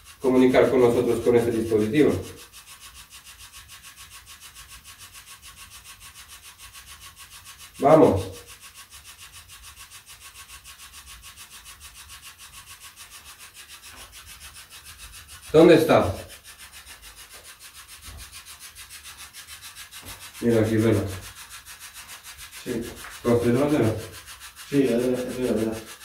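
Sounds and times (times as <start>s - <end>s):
radio scanner pulsing static: 0.0s - 26.0s.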